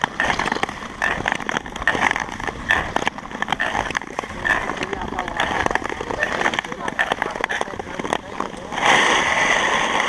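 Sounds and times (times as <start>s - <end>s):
skate blades scraping on ice: 0.0s - 10.0s
ski-pole tips clicking on ice: 0.0s - 10.0s.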